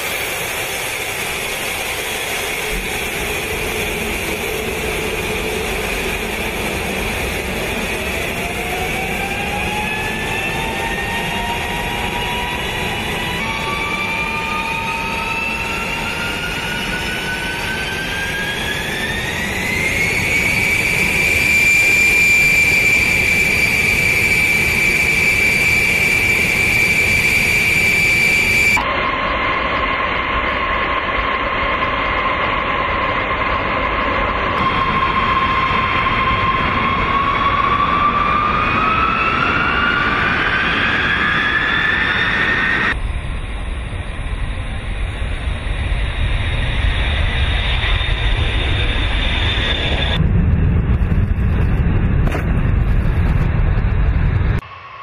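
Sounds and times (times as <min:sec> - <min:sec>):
jet engines whining: 0:00.0 - 0:55.0.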